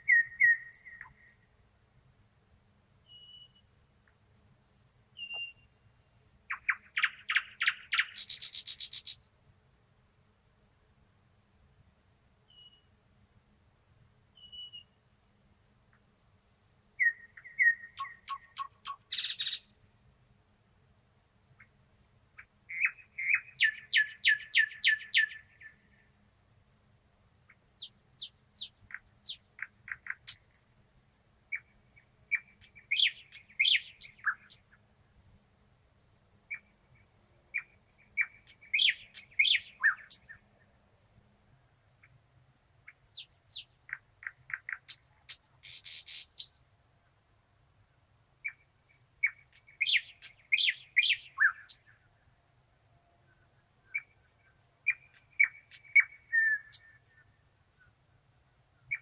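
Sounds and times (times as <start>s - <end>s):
nightingale singing: 0.0s - 1.5s, 3.0s - 9.2s, 11.9s - 12.9s, 14.4s - 19.7s, 21.2s - 26.0s, 27.5s - 41.3s, 42.0s - 46.7s, 48.4s - 52.2s, 52.8s - 59.0s.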